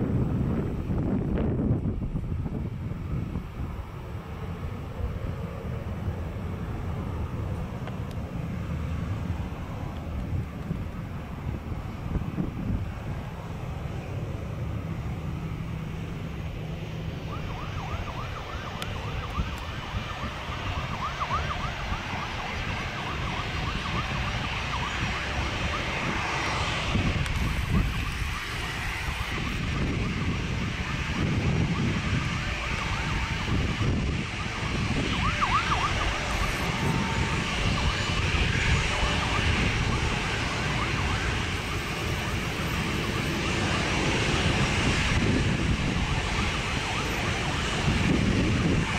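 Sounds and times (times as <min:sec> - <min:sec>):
faint sirens wailing: 0:00.0 - 0:48.9
jet engines running: 0:00.0 - 0:48.9
wind rumble: 0:00.0 - 0:48.9.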